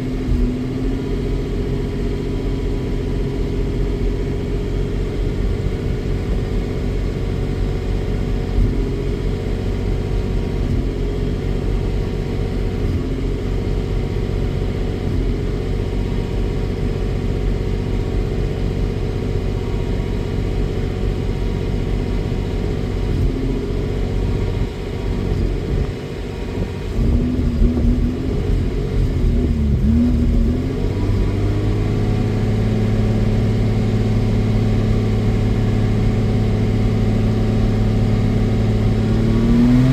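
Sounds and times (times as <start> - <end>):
car engine running unevenly: 0.0 - 39.9.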